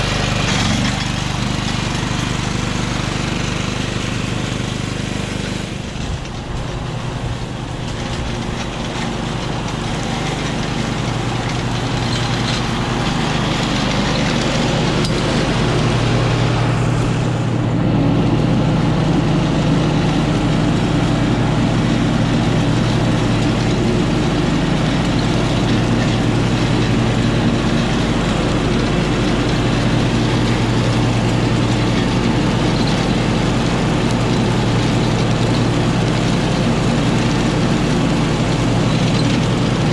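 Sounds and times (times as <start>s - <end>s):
riding lawn mower engine: 0.0s - 39.9s.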